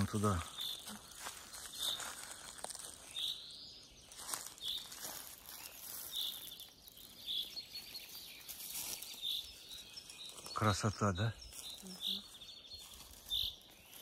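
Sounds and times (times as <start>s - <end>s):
faint forest background: 0.0s - 14.0s
songbird high call: 0.0s - 14.0s.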